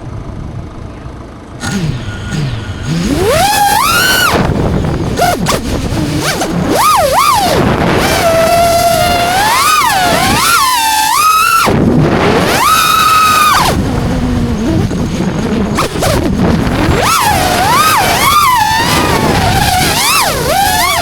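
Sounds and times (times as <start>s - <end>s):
drone motors whining: 1.6s - 21.0s
wind on microphone: 1.6s - 21.0s.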